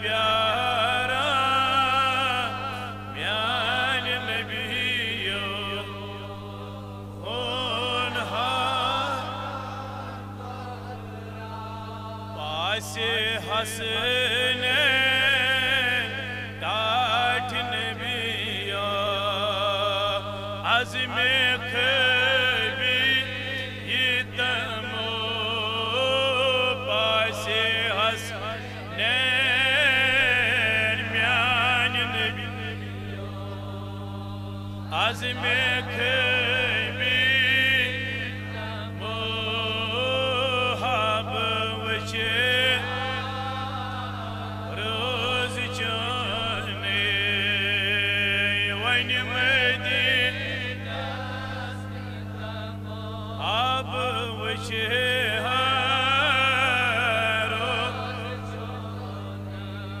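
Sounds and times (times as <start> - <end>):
man singing devotional song: 0.0 - 60.0.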